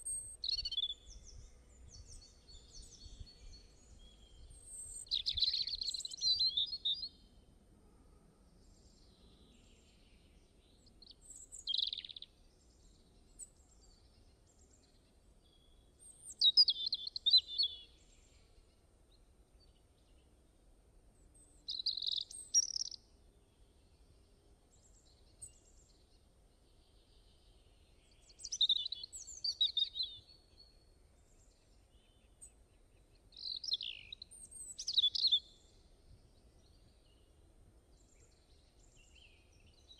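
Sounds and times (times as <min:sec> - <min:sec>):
songbird chirping: 0:00.0 - 0:07.6, 0:08.5 - 0:39.9
faint background hiss: 0:00.0 - 0:39.9.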